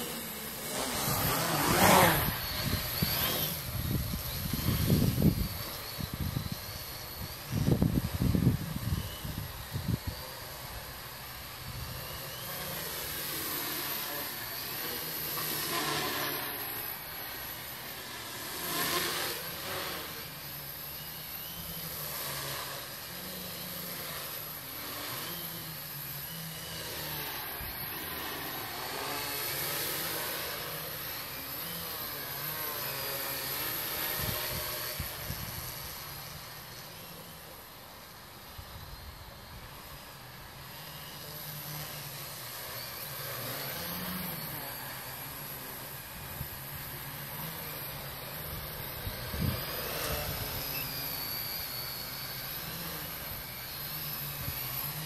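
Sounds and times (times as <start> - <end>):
quadcopter propellers buzzing: 0.0 - 55.0.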